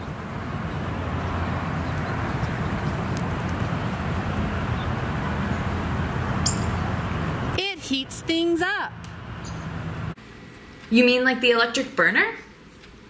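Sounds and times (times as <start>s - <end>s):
road traffic rumble: 0.0s - 10.5s.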